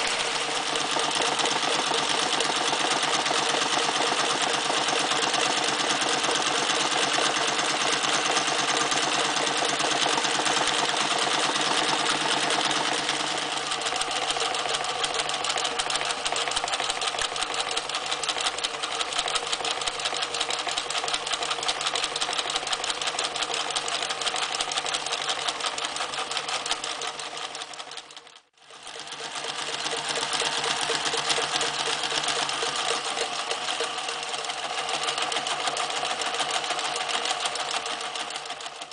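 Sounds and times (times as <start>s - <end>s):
sewing machine stitching: 0.0s - 38.9s.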